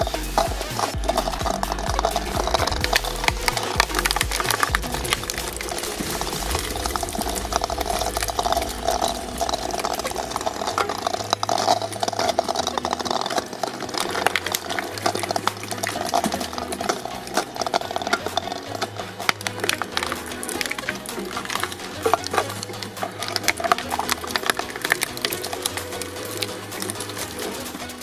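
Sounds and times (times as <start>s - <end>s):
machine hum: 0.0s - 28.0s
shredder crackling: 0.0s - 28.0s.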